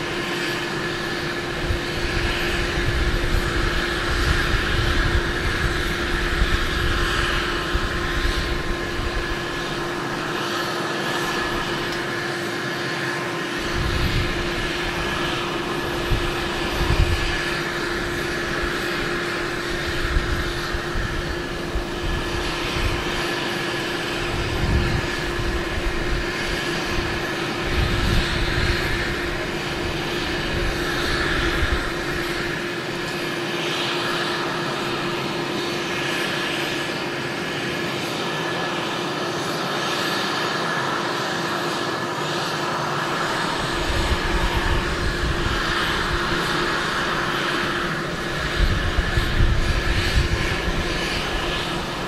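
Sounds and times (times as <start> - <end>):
helicopter turbines whining: 0.0 - 52.0.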